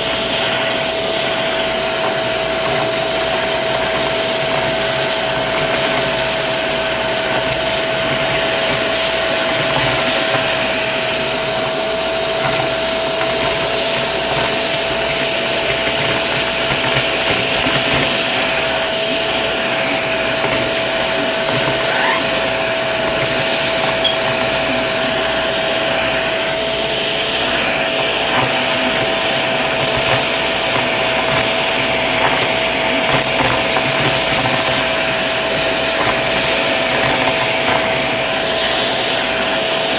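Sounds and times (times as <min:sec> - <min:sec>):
confetti crackling being sucked up: 0:00.0 - 0:39.9
vacuum cleaner whining: 0:00.0 - 0:39.9.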